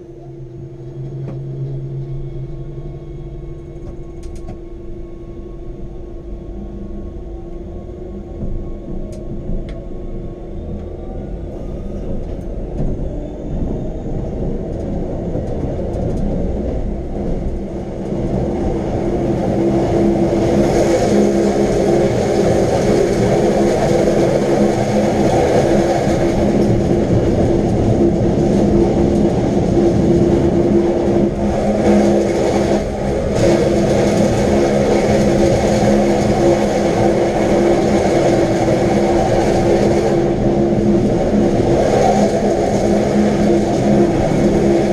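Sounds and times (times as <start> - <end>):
electric train rumble and hum: 0.0 - 44.9.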